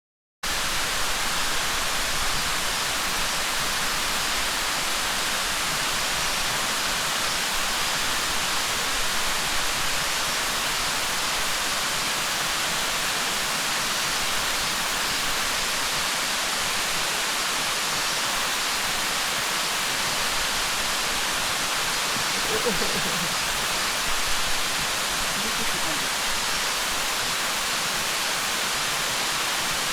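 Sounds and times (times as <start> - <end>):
waterfall rushing: 0.6 - 29.9.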